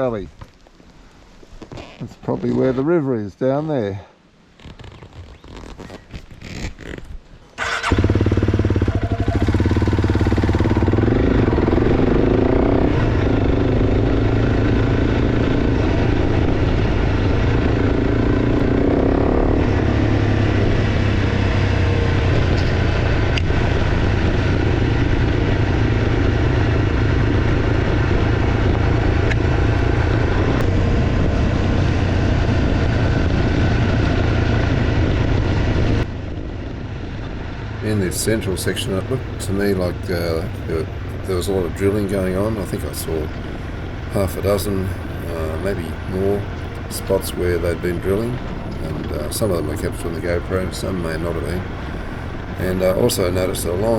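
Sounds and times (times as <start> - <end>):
motorcycle engine running: 7.6 - 53.9.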